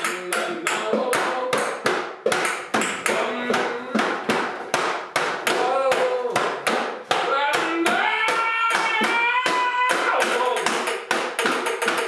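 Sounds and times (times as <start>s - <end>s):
hand percussion on bongos and objects: 0.0s - 12.0s.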